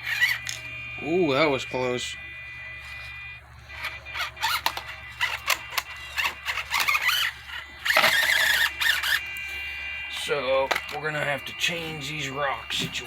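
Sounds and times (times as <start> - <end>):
toy car electric motor whining: 0.0 - 13.0.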